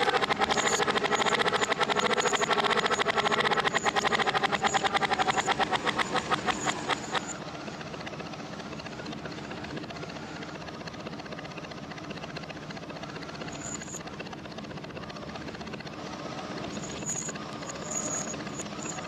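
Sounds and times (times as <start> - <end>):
tractor engine chugging backwards: 0.0 - 19.0.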